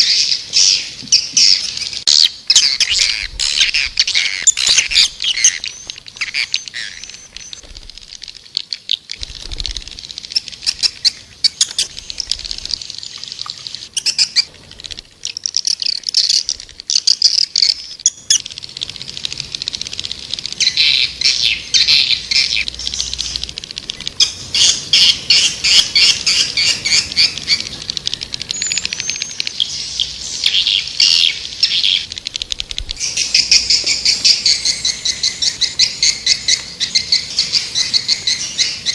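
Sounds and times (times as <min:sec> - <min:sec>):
swiftlets twittering: 0:01.6 - 0:38.9.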